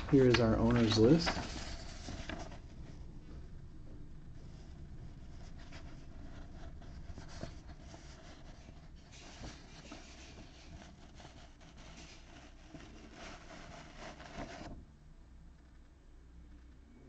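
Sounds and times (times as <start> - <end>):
soft rustles: 0.0 - 14.8
low steady hum: 0.0 - 17.0.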